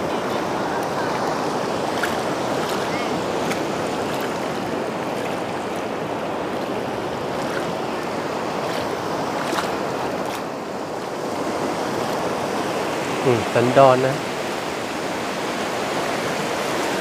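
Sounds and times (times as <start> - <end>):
sea surf breaking: 0.0 - 17.0.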